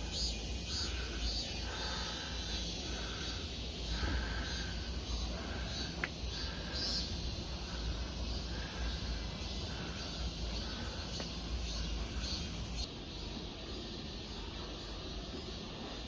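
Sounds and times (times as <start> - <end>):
faint bird and insect calls: 0.0 - 16.0.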